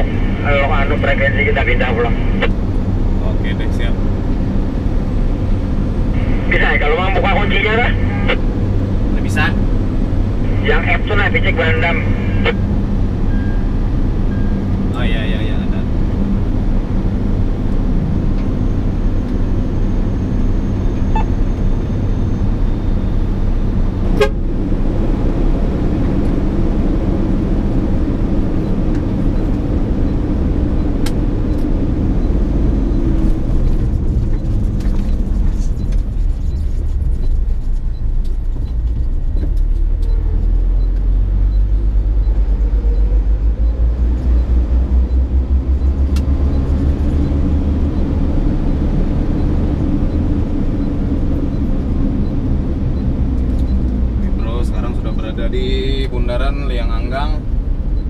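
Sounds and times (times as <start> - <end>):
truck diesel engine rumble in cab: 0.0 - 58.0.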